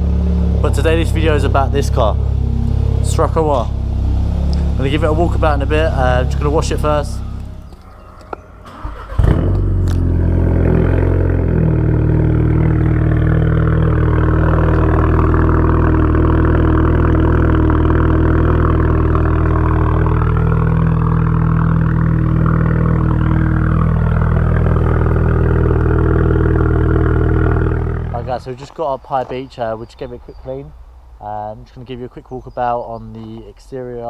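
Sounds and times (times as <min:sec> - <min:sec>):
car engine starting and idling: 0:00.0 - 0:33.7.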